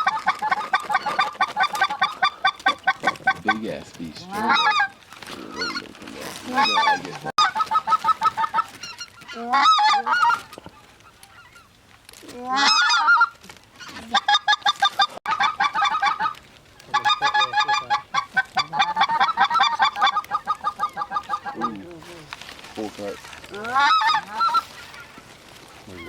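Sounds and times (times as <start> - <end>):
goose clucking: 0.0 - 11.7, 12.4 - 26.0
goose honking: 0.0 - 11.7, 12.4 - 26.0.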